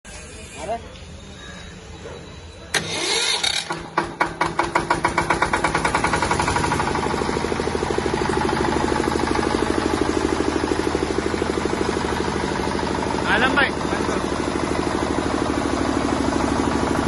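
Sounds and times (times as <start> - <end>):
diesel generator engine starting: 2.4 - 17.0.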